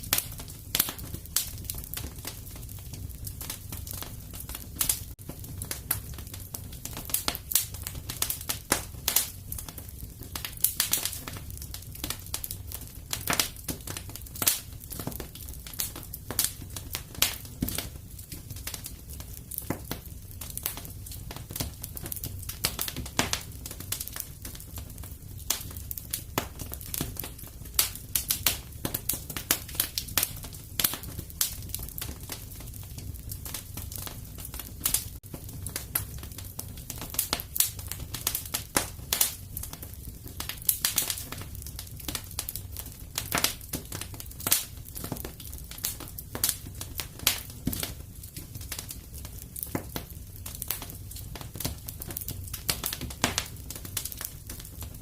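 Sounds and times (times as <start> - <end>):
low fire rumble: 0.0 - 55.0
wood fire crackling: 0.0 - 55.0.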